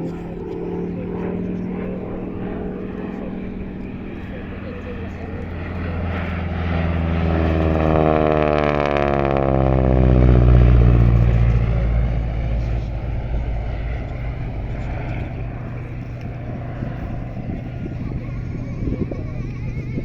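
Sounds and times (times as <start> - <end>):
propeller plane flyby: 0.0 - 20.0.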